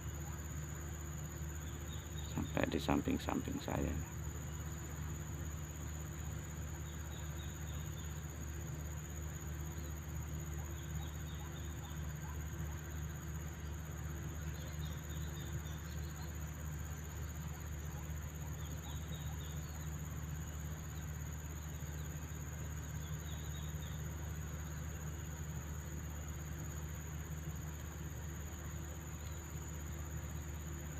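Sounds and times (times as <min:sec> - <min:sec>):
faint chirps: 0:00.0 - 0:30.9
high-pitched insect drone: 0:00.0 - 0:30.9.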